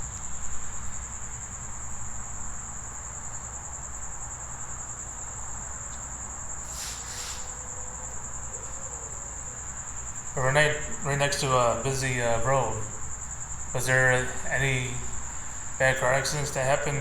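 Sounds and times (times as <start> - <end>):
crickets trilling: 0.0 - 17.0
road traffic rumble: 0.0 - 17.0.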